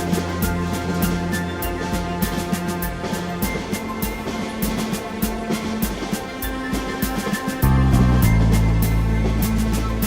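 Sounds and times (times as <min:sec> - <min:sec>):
instrumental music with held notes: 0:00.0 - 0:10.0
steady percussive beat: 0:00.0 - 0:10.0.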